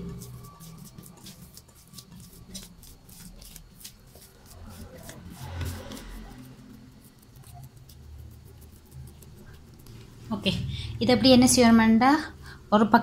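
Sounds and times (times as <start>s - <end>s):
hands kneading sticky dough: 0.0s - 10.6s.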